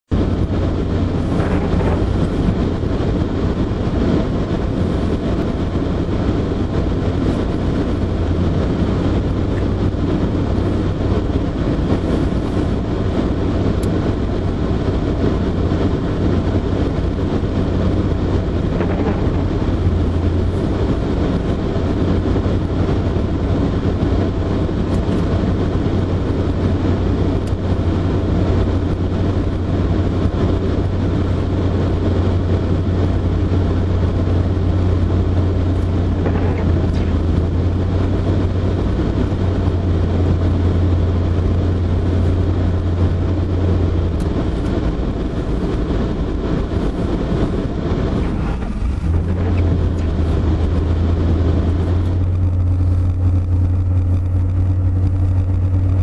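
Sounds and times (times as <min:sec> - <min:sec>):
low hum: 0:00.0 - 0:56.0
freight train running: 0:00.1 - 0:56.0.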